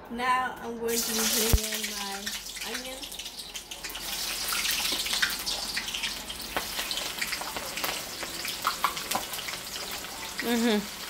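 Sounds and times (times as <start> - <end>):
onions sizzling in hot oil: 0.8 - 11.0.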